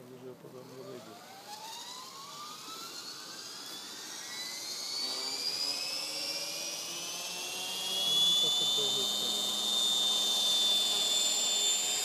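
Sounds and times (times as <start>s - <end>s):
rc helicopter motor whine rising: 0.5s - 12.0s.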